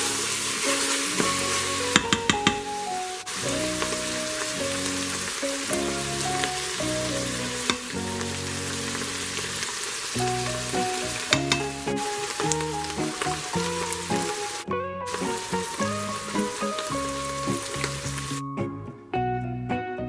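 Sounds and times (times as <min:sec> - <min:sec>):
meat and onions sizzling: 0:00.0 - 0:18.7
background music: 0:00.0 - 0:20.0.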